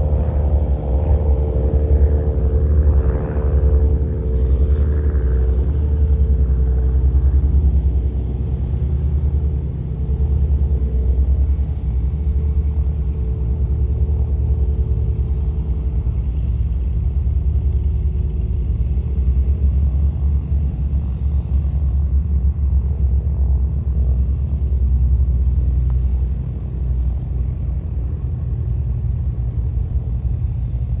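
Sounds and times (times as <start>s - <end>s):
heavy low rumble: 0.0s - 31.0s
propeller plane engine droning: 0.0s - 31.0s.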